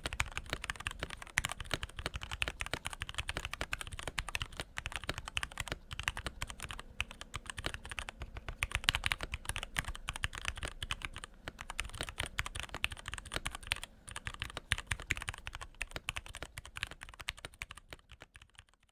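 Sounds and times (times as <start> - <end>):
mechanical keyboard typing: 0.0 - 18.9.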